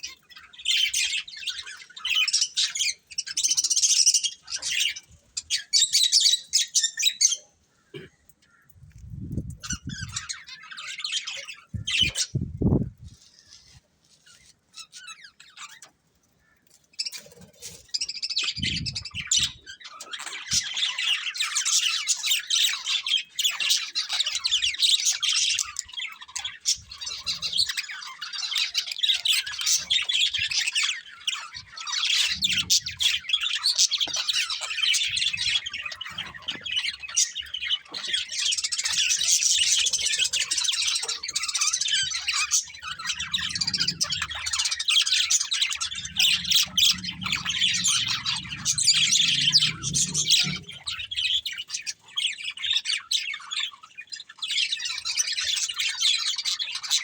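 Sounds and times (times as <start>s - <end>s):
budgerigars chirping and chattering: 0.0s - 7.6s, 9.2s - 16.0s, 16.6s - 57.0s.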